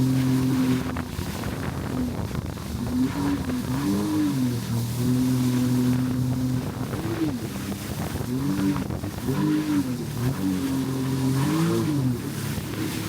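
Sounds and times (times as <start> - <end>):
jet ski engine revving: 0.0 - 13.0
wind and water rushing: 0.0 - 13.0.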